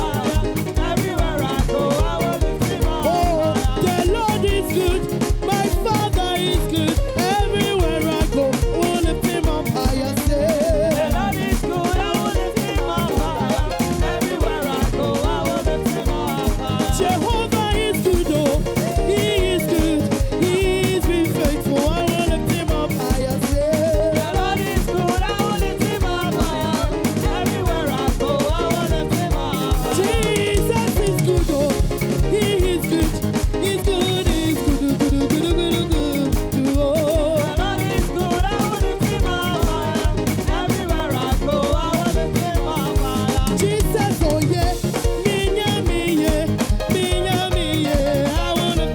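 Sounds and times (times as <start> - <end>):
church praise band: 0.0 - 48.9
people singing: 0.0 - 48.9
steady drum beat: 0.0 - 48.9.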